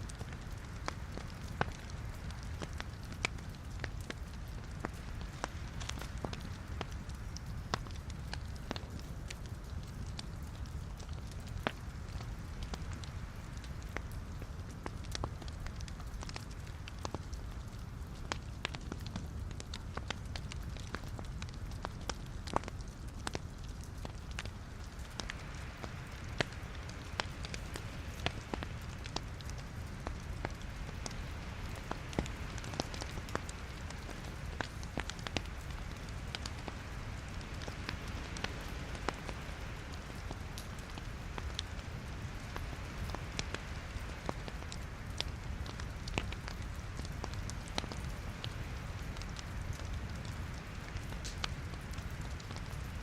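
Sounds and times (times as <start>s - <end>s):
flames rumbling and hissing: 0.0s - 53.0s
logs crackling and popping: 0.0s - 53.0s.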